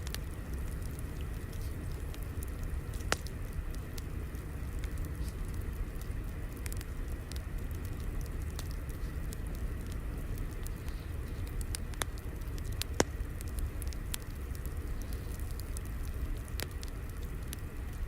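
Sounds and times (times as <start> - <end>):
fire crackling: 0.0 - 18.0
fire pops: 0.0 - 18.0
steady low rumble: 0.0 - 18.0.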